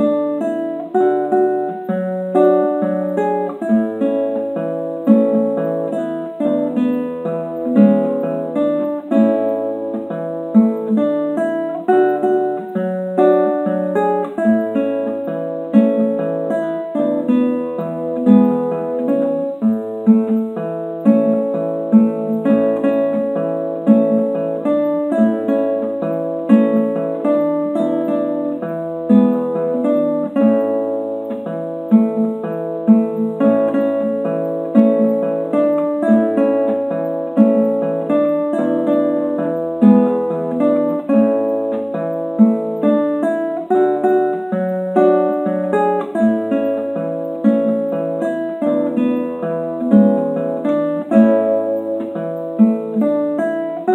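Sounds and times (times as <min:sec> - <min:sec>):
solo classical guitar: 0:00.0 - 0:53.9.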